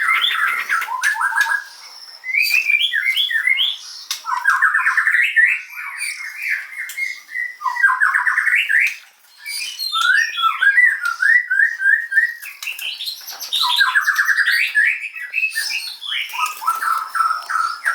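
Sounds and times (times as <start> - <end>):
bird singing whistles and trills: 0.0 - 17.9.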